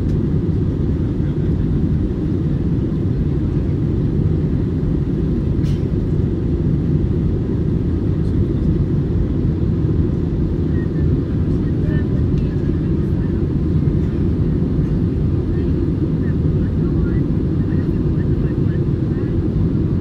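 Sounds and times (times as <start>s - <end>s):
airplane cabin roar: 0.0s - 20.0s.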